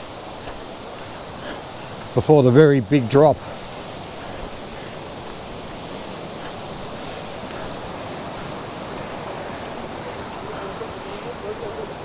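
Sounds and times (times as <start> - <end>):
waterfall rushing roar: 0.0 - 12.0.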